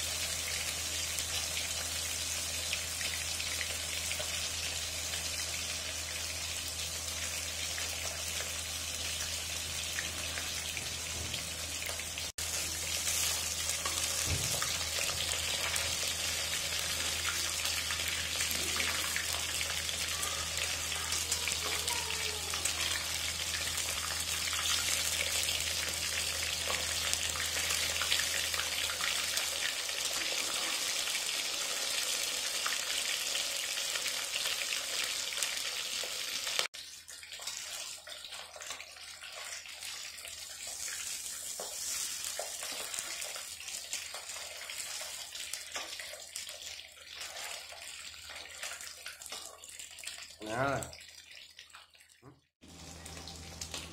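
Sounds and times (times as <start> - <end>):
fish frying in hot oil: 0.0 - 53.9.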